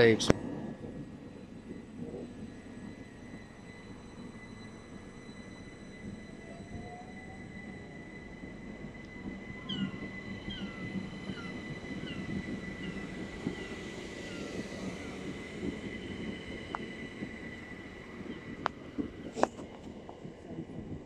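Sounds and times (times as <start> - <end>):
high electric whine: 0.0 - 21.0
train wheels rumbling on rail: 0.0 - 21.0.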